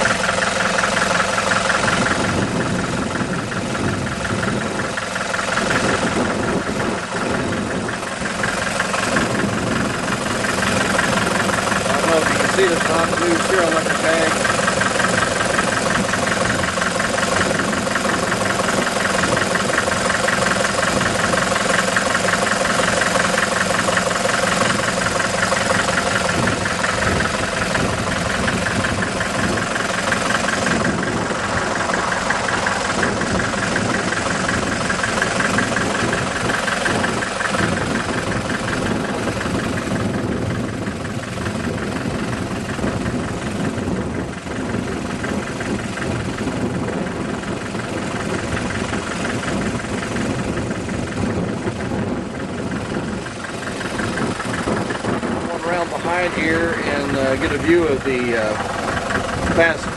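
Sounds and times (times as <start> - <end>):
diesel tractor engine idling: 0.0 - 59.9.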